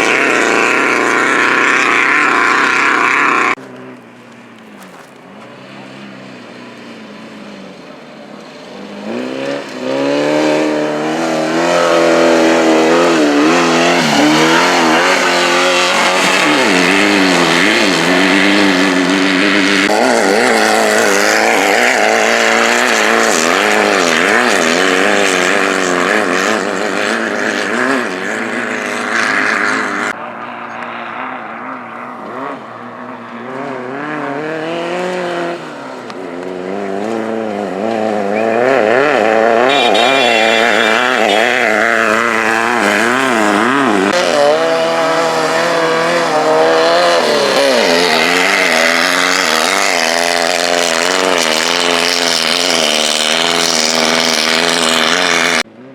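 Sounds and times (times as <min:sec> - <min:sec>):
race car engines revving: 0:00.0 - 0:55.9.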